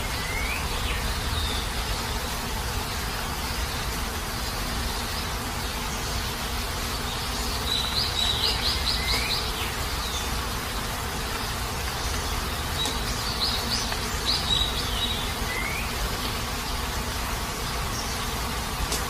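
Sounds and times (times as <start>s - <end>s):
bird chirping: 0.0s - 2.3s, 3.4s - 17.0s
heavy rain: 0.0s - 19.0s.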